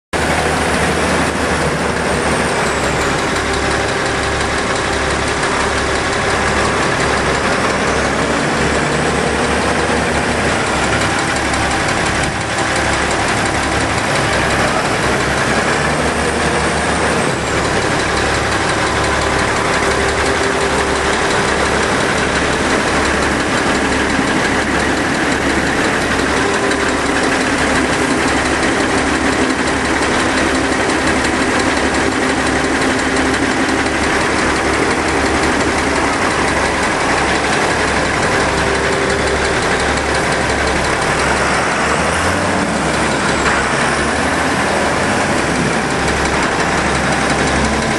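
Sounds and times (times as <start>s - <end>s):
tractor diesel engine idling: 0.2s - 47.9s.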